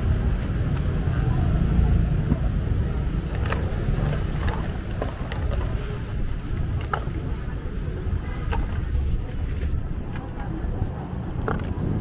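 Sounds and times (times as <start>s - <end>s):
faint distant voices: 0.0s - 12.0s
low traffic rumble: 0.0s - 12.0s.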